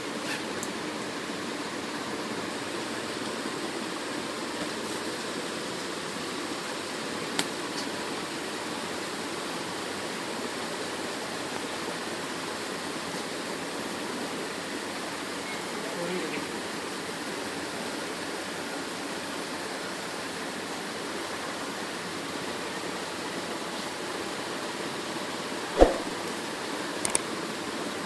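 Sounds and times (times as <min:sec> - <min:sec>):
room noise hiss: 0:00.0 - 0:28.0.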